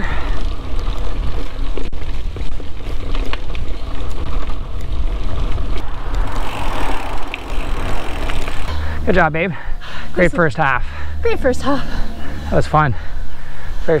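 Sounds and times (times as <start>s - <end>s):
bike tyres clicking and rattling: 0.0s - 11.6s
bike riding on dirt trail rumble: 0.0s - 14.0s.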